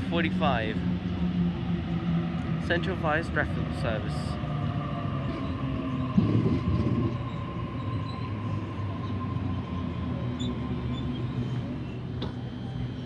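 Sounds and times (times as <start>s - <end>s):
electric train whine: 0.0s - 13.0s.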